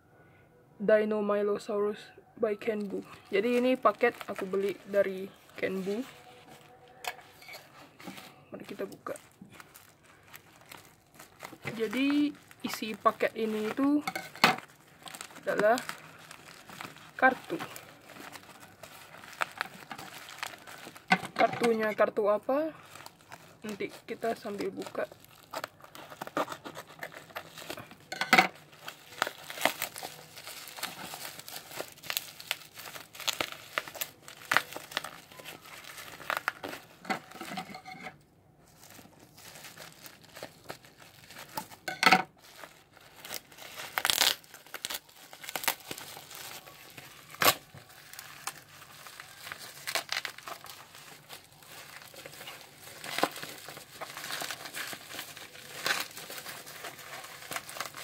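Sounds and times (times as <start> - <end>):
plastic mailer crinkling: 2.7 - 37.8, 38.6 - 58.0.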